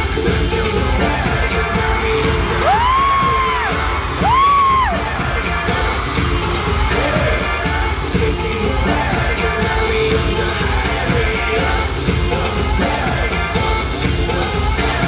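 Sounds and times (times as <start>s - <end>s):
live pop music with beat: 0.0s - 15.0s
person singing: 0.0s - 15.0s.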